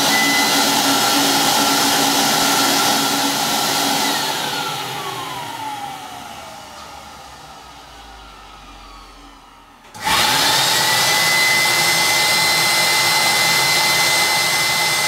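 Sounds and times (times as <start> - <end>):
vacuum motor whining: 0.0 - 15.0.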